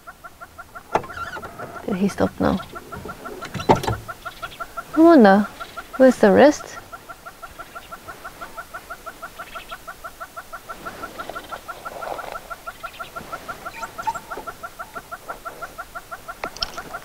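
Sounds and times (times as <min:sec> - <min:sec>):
hornbill clucking call: 0:00.0 - 0:17.0.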